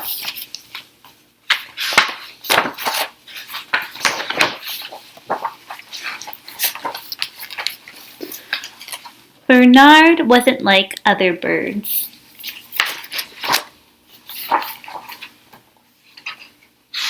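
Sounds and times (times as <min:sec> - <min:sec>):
paper rustling: 0:00.0 - 0:09.3, 0:12.3 - 0:17.0.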